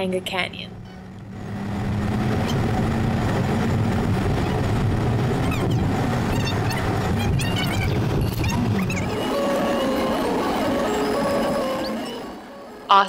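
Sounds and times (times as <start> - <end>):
car engine and tyre rumble: 0.0 - 12.6.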